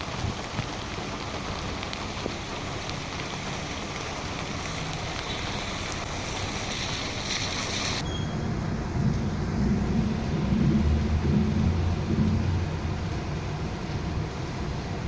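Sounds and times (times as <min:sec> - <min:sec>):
heavy rain falling: 0:00.0 - 0:15.0
rain drop clicks: 0:00.0 - 0:15.0.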